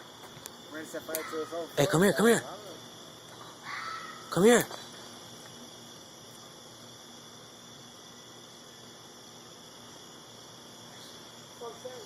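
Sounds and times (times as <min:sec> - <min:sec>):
night crickets chirping: 0:00.0 - 0:12.0.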